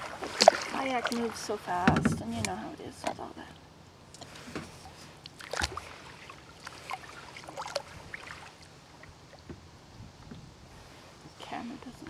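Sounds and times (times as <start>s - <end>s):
water splashes and drips: 0.0s - 11.8s
paddle strokes in water: 0.0s - 12.0s.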